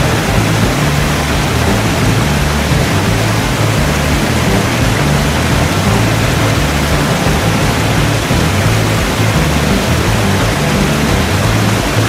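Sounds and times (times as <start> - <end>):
background music: 0.0 - 12.0
stream rushing over rocks: 0.0 - 12.0.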